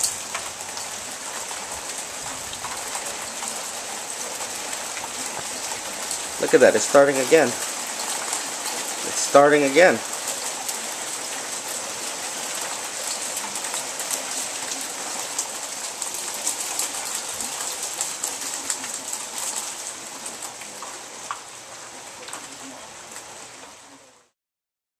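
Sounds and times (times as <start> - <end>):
hail and rain pelting down: 0.0 - 24.3.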